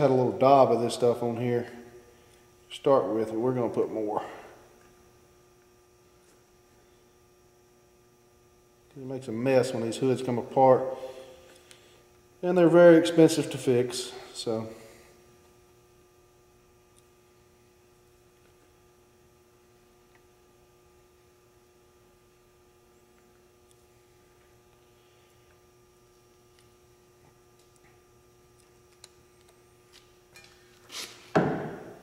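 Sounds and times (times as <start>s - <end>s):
faint electrical hum: 0.0s - 32.0s.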